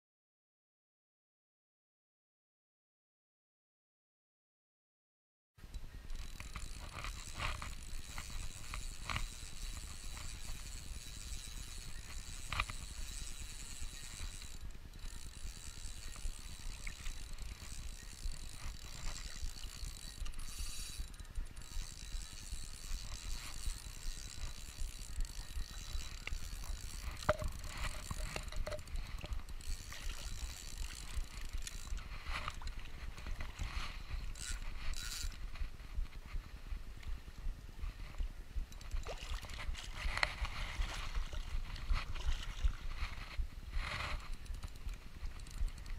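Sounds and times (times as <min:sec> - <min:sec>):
fishing reel whirring and clicking: 0:05.7 - 0:37.1, 0:38.0 - 0:45.9.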